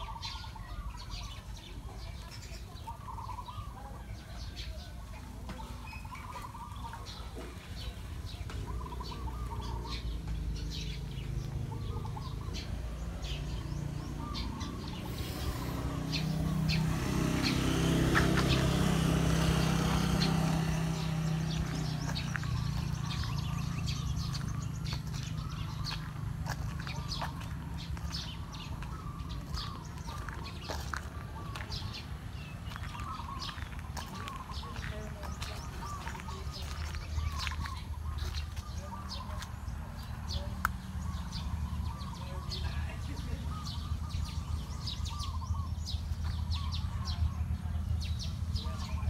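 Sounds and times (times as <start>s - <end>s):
birds chirping and calling: 0.0s - 49.0s.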